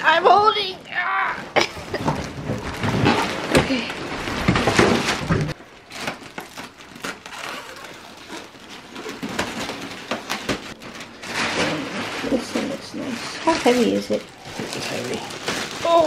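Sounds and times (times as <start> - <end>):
plastic bag rustling and crinkling: 1.6 - 16.0.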